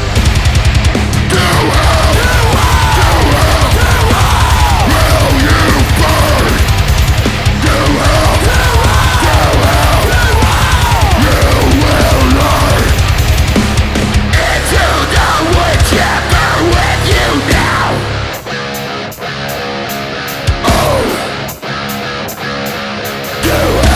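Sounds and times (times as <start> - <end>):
distorted guitars: 0.0 - 23.9
fast driving drums: 0.0 - 23.9
heavy metal music: 0.0 - 23.9.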